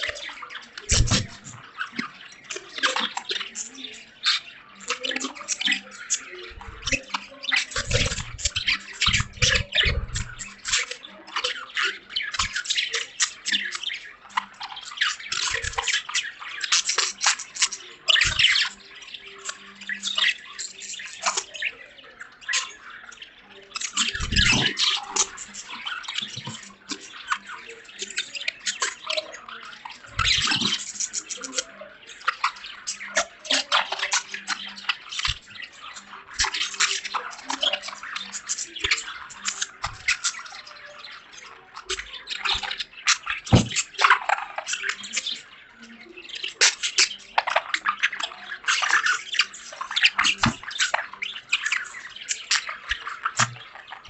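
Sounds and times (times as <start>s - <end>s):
budgies chattering and warbling: 0.0s - 54.0s.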